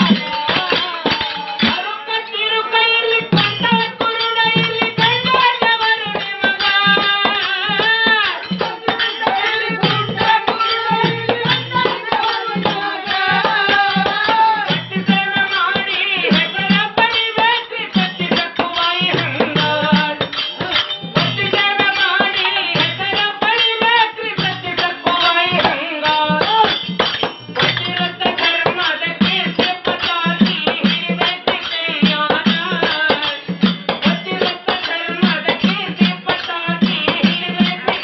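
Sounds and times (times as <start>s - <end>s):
hand cymbals: 0.0s - 38.0s
harmonium: 0.0s - 38.0s
men singing: 0.0s - 38.0s
tabla drums: 0.0s - 38.0s.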